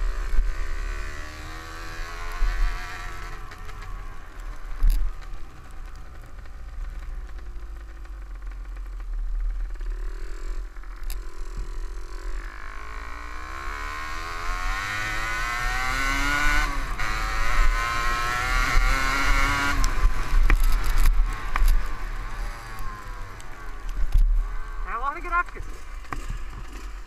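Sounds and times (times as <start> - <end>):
two-stroke engine accelerating: 0.0 - 27.0.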